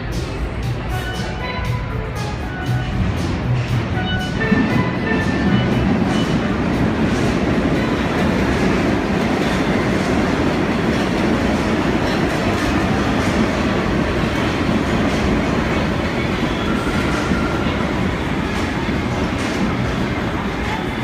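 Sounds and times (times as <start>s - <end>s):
subway train rumble: 0.0s - 21.0s
wheels clattering over rails: 3.0s - 21.0s.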